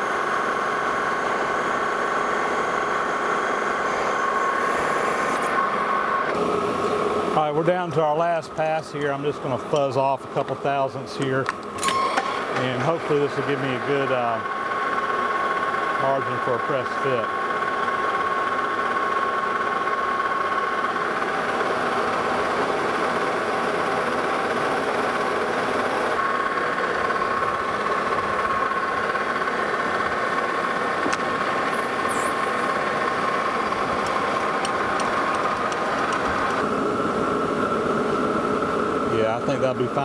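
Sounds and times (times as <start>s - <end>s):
metal lathe whine: 0.0s - 40.0s.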